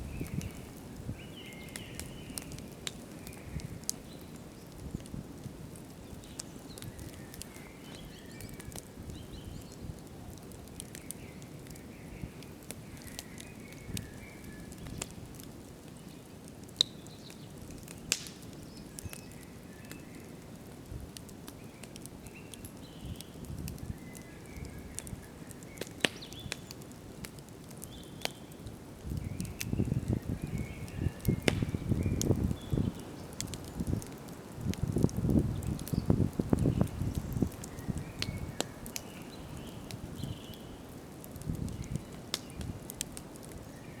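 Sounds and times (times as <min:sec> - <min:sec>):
campfire flames rushing: 0:00.0 - 0:19.4, 0:20.2 - 0:44.0
fire crackling and popping: 0:00.0 - 0:44.0.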